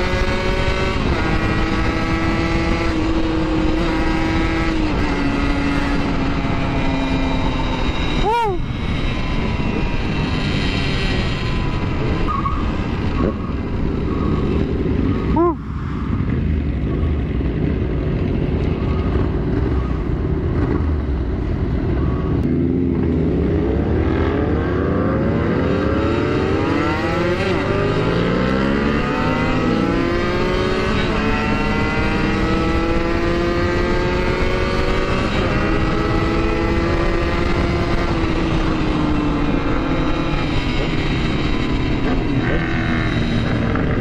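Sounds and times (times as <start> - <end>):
motorcycle engine revving: 0.0 - 44.0
wind noise: 0.0 - 44.0.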